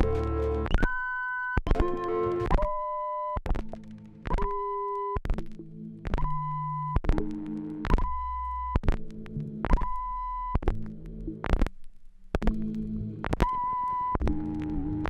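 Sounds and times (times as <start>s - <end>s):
beep-like turntable tones: 0.0s - 11.7s, 12.4s - 15.0s
sharp clicks: 0.0s - 14.8s.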